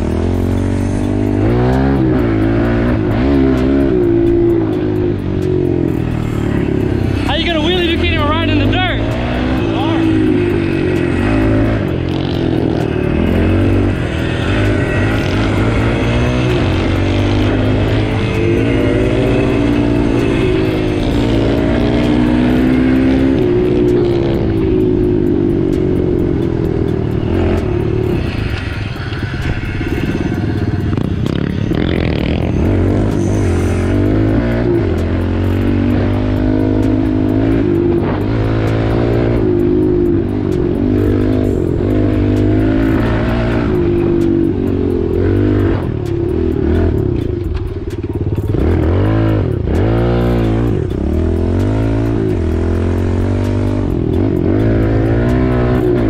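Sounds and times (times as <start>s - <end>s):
dirt bike engine revving: 0.0s - 56.0s
music: 0.0s - 56.0s.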